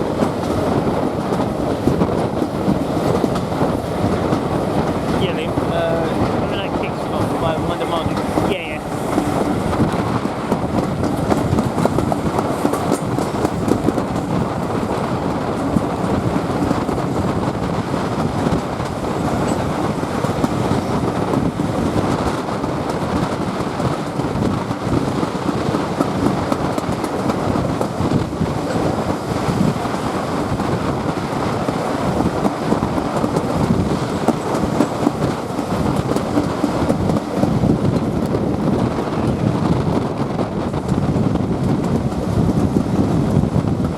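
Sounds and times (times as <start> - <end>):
steam train rumbling: 0.0 - 43.9
wheels clattering on track: 0.0 - 43.9.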